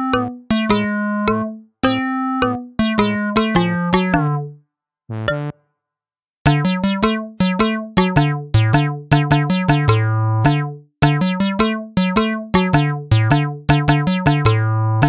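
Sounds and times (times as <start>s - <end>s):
light keyboard tune: 0.0s - 5.6s, 6.5s - 15.0s.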